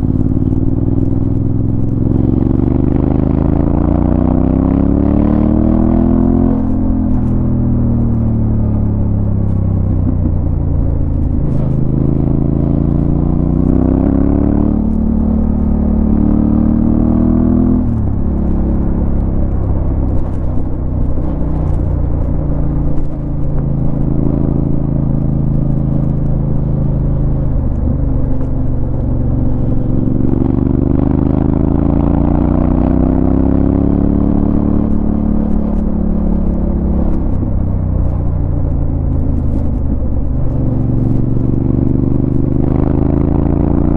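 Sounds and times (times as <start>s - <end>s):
motorcycle engine shifting gears: 0.0s - 43.9s.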